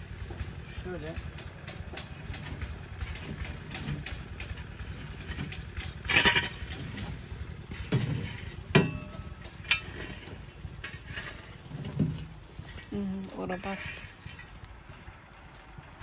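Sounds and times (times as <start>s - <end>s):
metal shovel scraping embers: 0.0s - 16.0s
steady low rumble: 0.0s - 16.0s.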